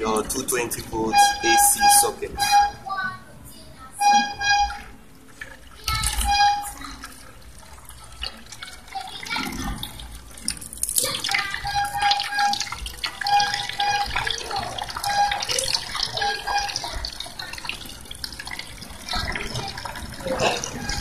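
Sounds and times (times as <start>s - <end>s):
water splashing into basin: 4.1s - 21.0s.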